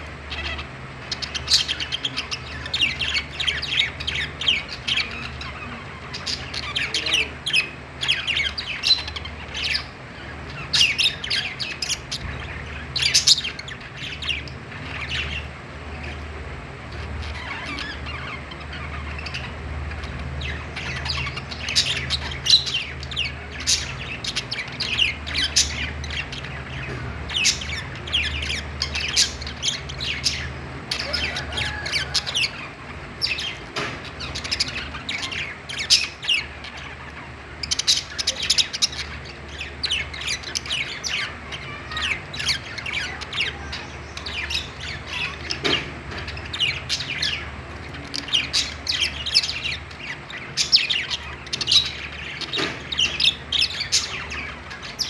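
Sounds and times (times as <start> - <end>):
budgerigars chirping and squawking: 0.0 - 55.0
steady low hum: 0.0 - 55.0.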